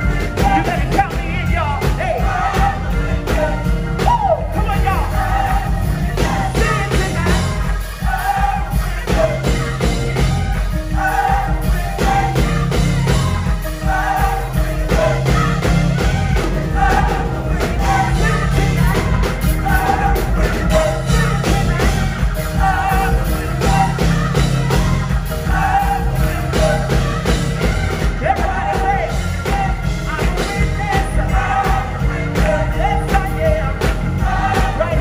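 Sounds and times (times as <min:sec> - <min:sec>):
gospel choir singing: 0:00.0 - 0:35.0
live band with drums and bass: 0:00.0 - 0:35.0.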